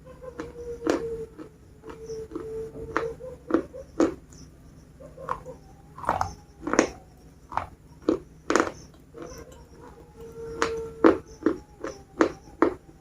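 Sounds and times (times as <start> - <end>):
biscuits being bitten and chewed: 0.0 - 4.5, 5.2 - 13.0.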